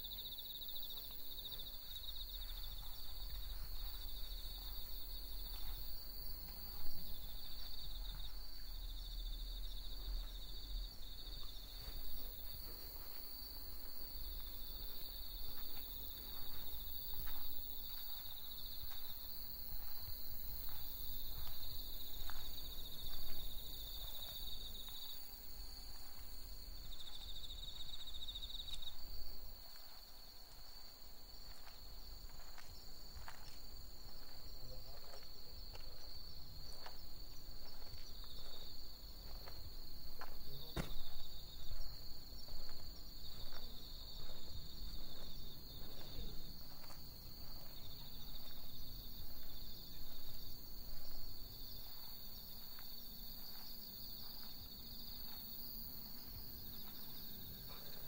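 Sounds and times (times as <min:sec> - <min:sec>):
night insects chirping: 0:00.0 - 0:58.0.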